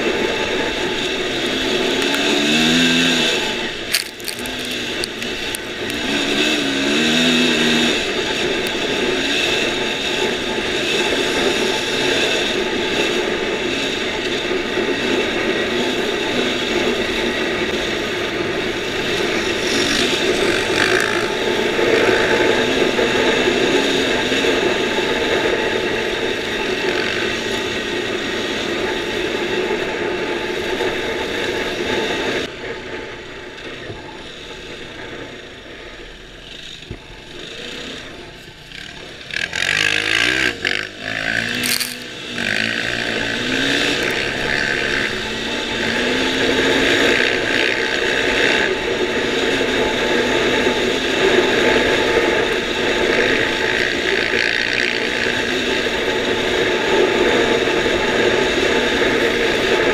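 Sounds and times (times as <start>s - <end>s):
dirt bike engine revving: 0.0s - 32.5s, 36.4s - 59.9s.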